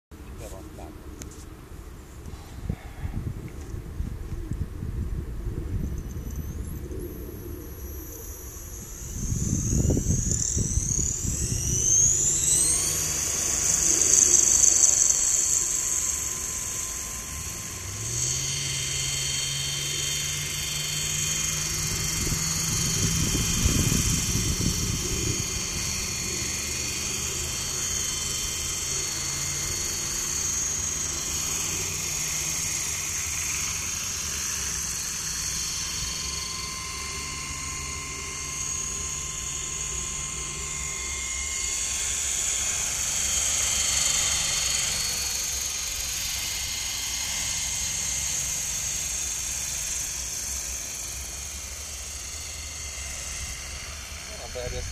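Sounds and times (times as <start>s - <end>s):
electric motor whine: 0.2s - 54.9s
helicopter rotors thrumming: 0.2s - 54.9s.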